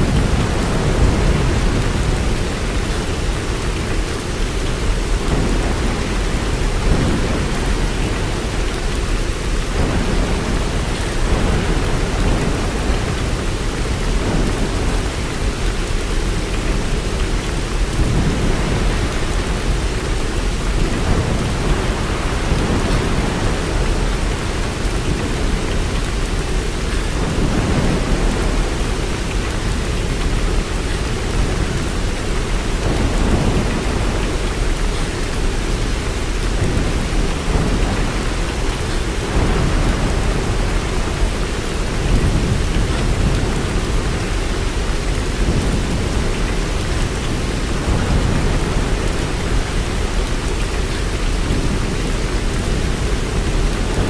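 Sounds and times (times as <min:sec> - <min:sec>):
heavy rain: 0:00.0 - 0:54.0
rumble of thunder: 0:00.0 - 0:54.0.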